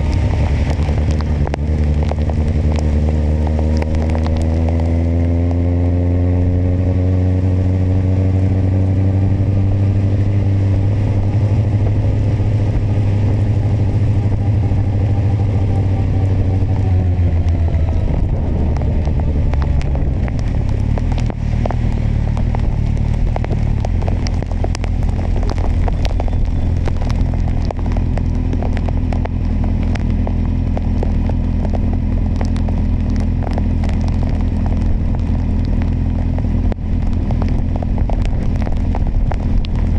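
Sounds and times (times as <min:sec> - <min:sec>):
motorcycle engine slowing down: 0:00.0 - 0:39.9
sharp crackles and taps: 0:00.0 - 0:39.9.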